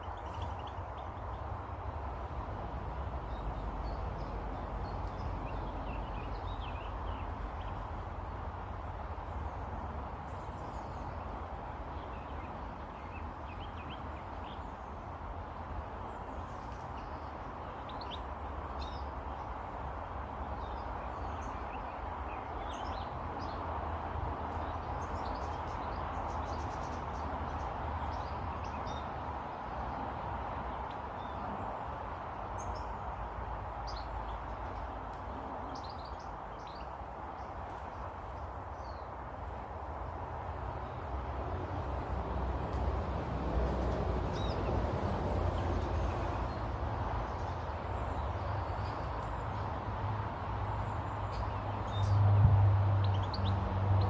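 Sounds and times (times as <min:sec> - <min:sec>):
small birds chirping: 0:00.0 - 0:01.9, 0:02.9 - 0:41.2, 0:43.6 - 0:52.3, 0:53.0 - 0:54.0.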